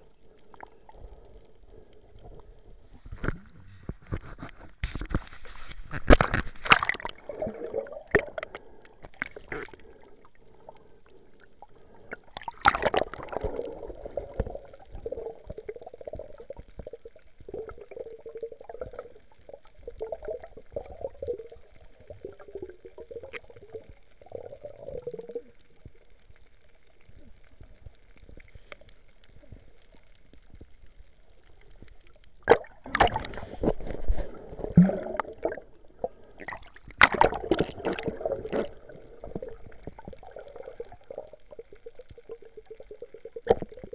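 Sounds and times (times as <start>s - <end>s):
muffled underwater water gurgling: 0.0s - 43.9s.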